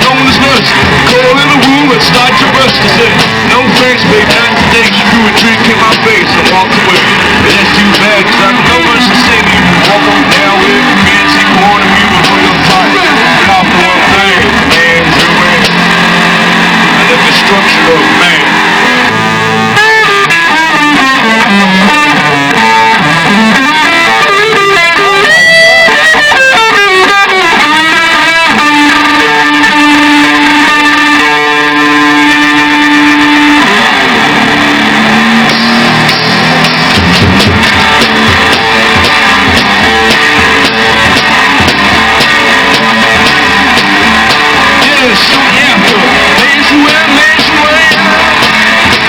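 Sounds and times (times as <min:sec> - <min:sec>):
electric guitar solo: 0:00.0 - 0:49.0.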